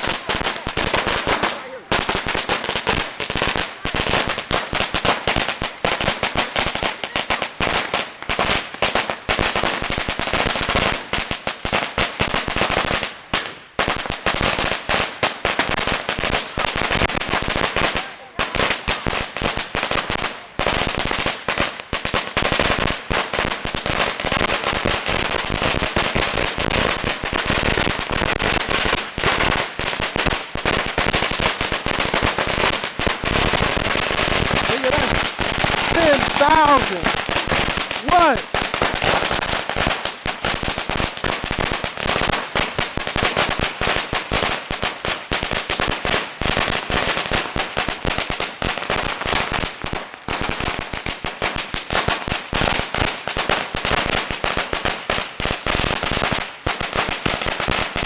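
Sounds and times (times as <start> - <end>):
firecracker string crackling: 0.0 - 58.0.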